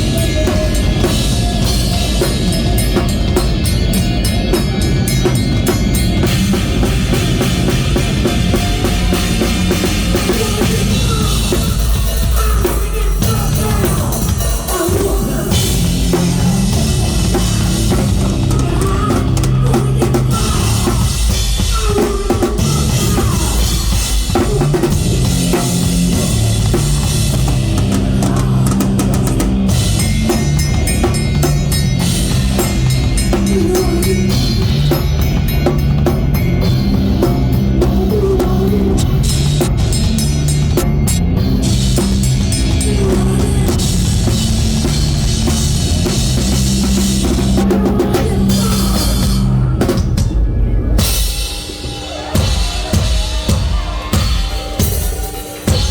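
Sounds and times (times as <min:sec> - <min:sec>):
bass drum and snare: 0:00.0 - 0:55.9
loud rock music: 0:00.0 - 0:55.9.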